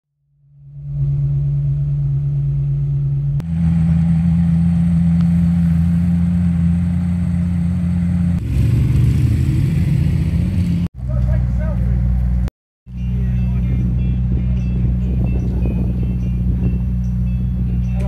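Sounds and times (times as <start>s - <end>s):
car engine idling: 0.4s - 18.0s
supercar engines running: 0.4s - 18.0s.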